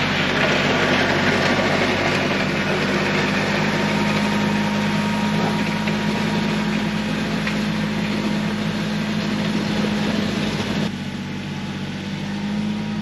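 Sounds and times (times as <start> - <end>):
land plane scraping gravel: 0.0 - 10.9
tractor diesel engine under load: 0.0 - 13.0.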